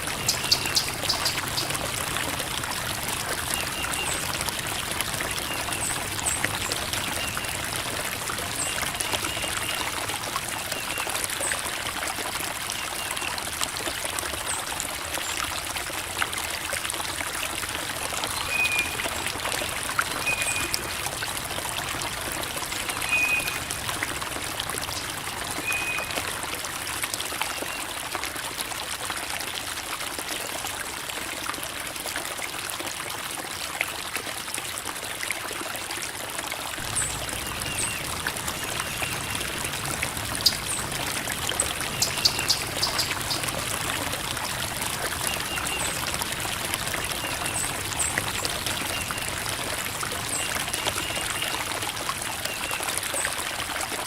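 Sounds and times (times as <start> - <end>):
creek babbling over rocks: 0.0 - 54.0.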